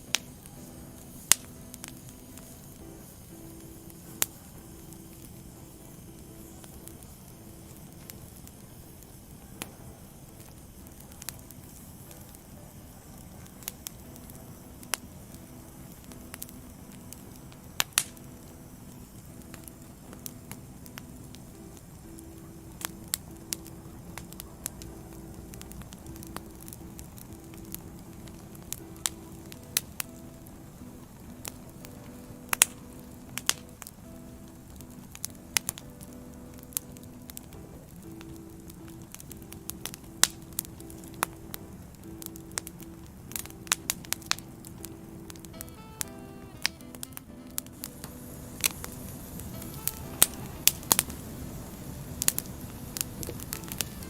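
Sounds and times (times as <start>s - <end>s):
soft hiss of fire: 0.0s - 54.0s
wood fire crackling: 0.0s - 54.0s.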